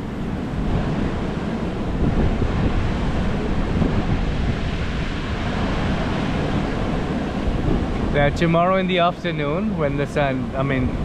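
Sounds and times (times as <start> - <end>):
heavy surf breaking: 0.0 - 11.0
wind buffeting microphone: 0.0 - 11.0.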